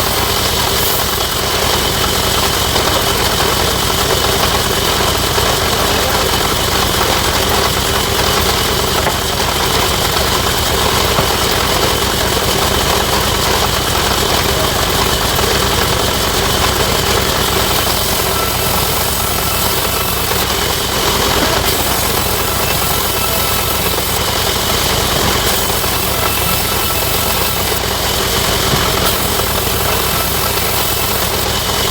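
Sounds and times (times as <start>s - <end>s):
sawmill machinery droning: 0.0s - 31.9s.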